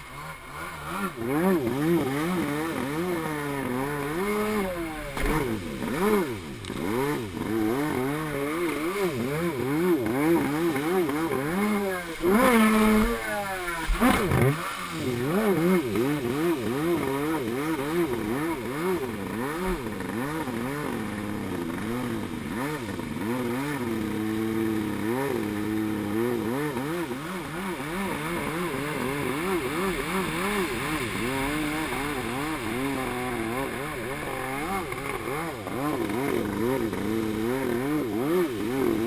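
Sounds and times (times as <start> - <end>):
jet ski engine revving: 0.0 - 39.0.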